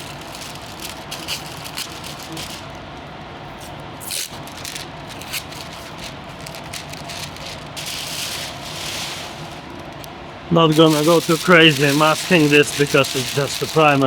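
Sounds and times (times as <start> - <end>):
tape unrolling: 0.0 - 2.8, 3.5 - 10.1, 10.7 - 14.0
paper crackling and rustling: 0.0 - 10.1, 10.7 - 14.0.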